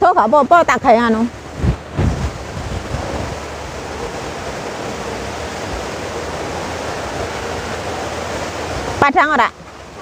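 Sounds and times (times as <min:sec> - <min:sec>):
wind buffets on microphone: 0:00.0 - 0:09.1.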